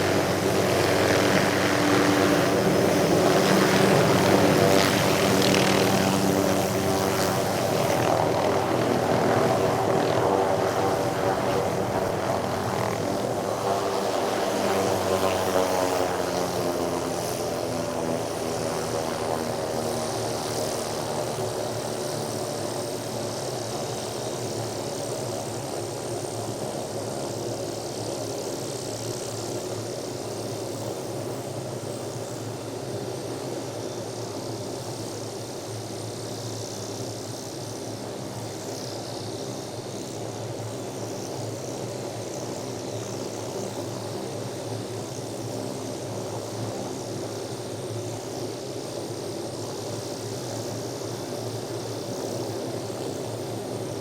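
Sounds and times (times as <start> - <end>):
helicopter engine and rotor blades: 0.0 - 54.0.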